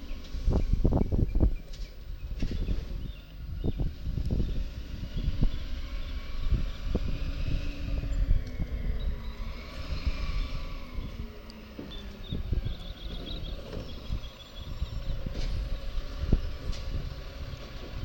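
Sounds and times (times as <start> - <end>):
garbage truck rumbling: 0.0 - 18.0.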